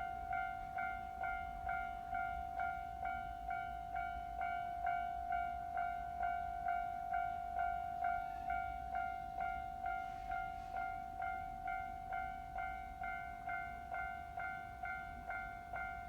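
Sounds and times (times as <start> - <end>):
level-crossing warning bell: 0.0 - 16.0.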